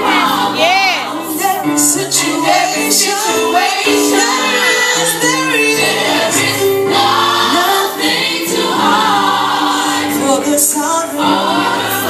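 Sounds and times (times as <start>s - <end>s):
choir singing gospel song: 0.0s - 12.0s
musical backing: 0.0s - 12.0s.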